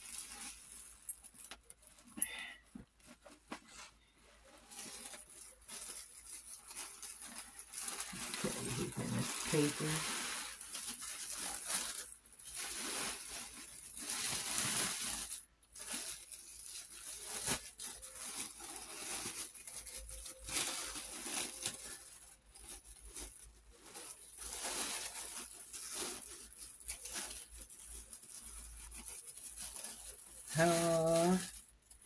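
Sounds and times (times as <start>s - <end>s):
wrapping material rustling: 0.0s - 32.0s.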